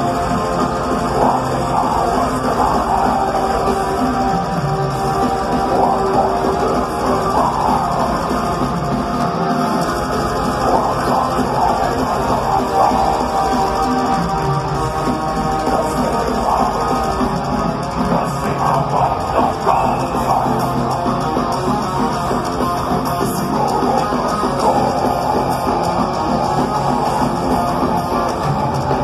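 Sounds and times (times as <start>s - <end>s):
distorted electric guitars: 0.0s - 29.0s
drum kit: 0.0s - 29.0s.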